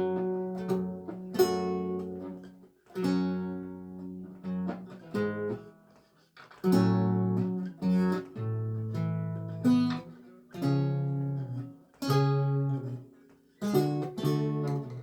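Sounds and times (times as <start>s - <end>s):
lute plucked chords: 0.0s - 5.8s, 6.6s - 15.0s.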